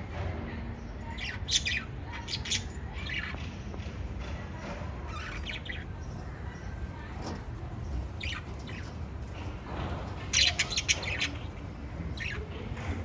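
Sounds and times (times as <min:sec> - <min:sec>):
lovebirds chirping and squawking: 0:00.8 - 0:03.7, 0:05.0 - 0:13.0.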